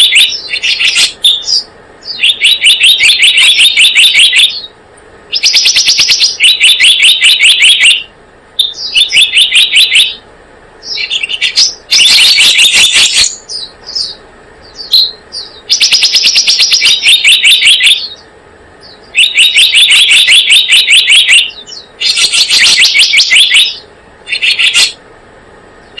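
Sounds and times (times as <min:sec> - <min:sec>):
single bird chirps: 0:00.0 - 0:10.2, 0:10.8 - 0:25.0
songbird trilling high chirps: 0:00.0 - 0:10.2, 0:10.8 - 0:25.0.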